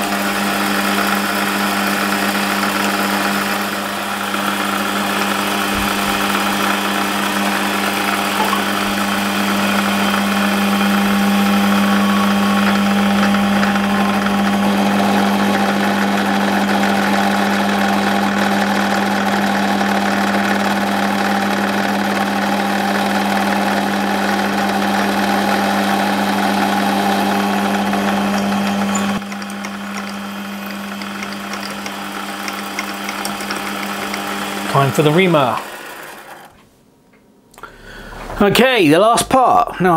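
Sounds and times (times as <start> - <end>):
drill boring metal: 0.0 - 36.6
metal lathe motor humming: 0.0 - 36.6.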